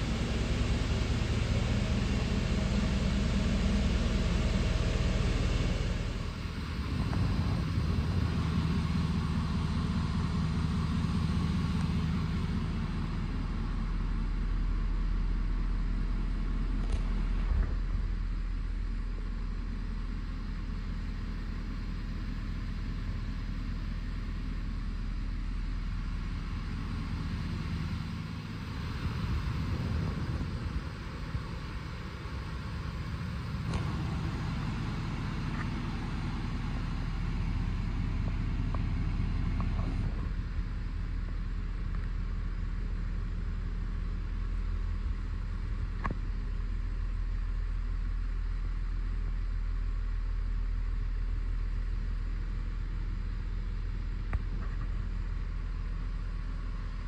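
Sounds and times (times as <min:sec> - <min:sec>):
pickup engine idling: 0:00.0 - 0:57.0.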